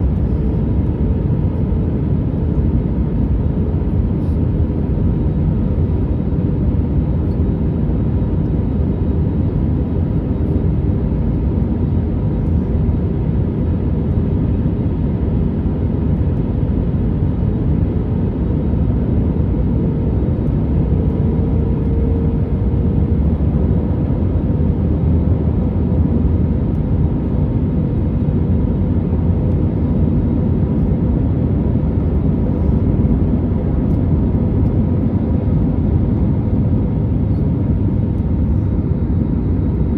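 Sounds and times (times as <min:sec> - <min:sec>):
engine and airflow rumble: 0:00.0 - 0:39.9.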